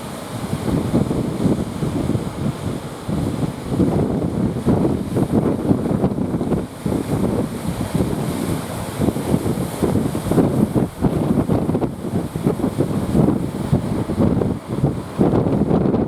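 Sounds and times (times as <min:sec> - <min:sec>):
sea surf: 0:00.0 - 0:16.0
wind buffeting microphone: 0:00.0 - 0:16.0.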